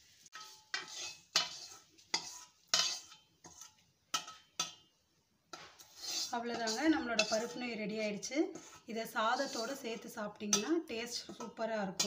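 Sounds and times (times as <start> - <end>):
metal spatula scraping a pan: 0.0 - 4.9, 5.5 - 12.0.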